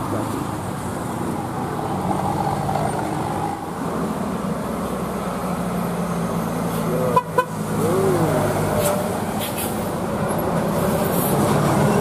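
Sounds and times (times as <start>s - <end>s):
bus engine hum: 0.0s - 12.0s
road noise: 0.0s - 12.0s.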